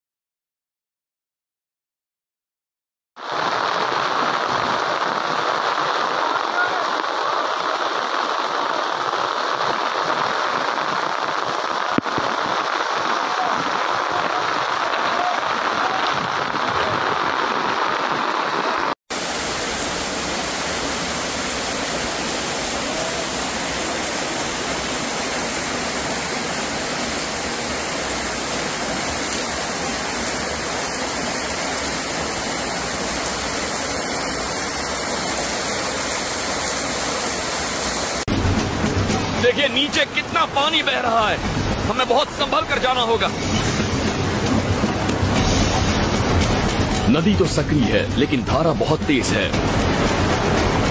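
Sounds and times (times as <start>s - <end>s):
floodwater rushing: 3.2s - 50.9s
rain: 3.2s - 50.9s.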